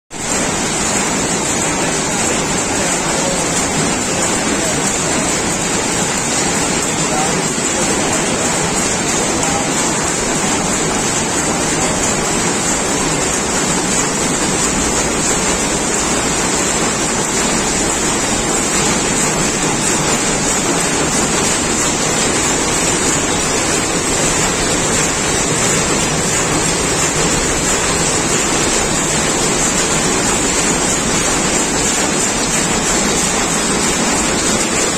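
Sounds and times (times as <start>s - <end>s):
weaving looms running: 0.1s - 34.9s.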